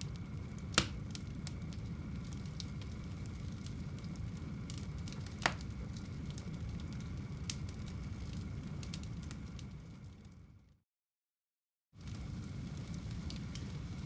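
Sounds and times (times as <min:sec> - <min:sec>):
fire popping: 0:00.0 - 0:10.4, 0:12.0 - 0:14.0
wood fire burning: 0:00.0 - 0:10.8, 0:12.0 - 0:14.0.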